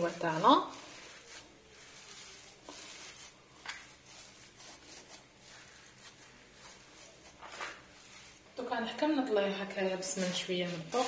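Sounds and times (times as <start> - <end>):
spatula scraping batter on tray: 0.0 - 11.0.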